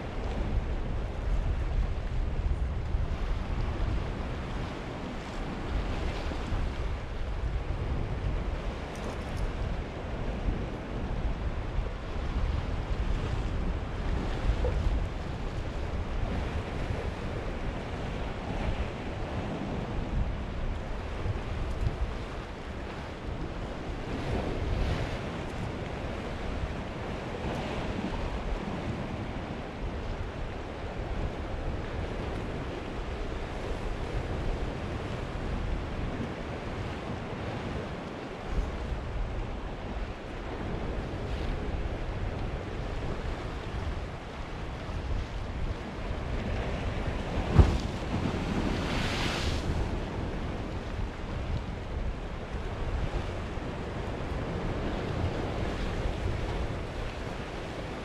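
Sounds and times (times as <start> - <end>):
wind rumbling on microphone: 0.0 - 58.0
waves washing against rocks: 9.6 - 58.0.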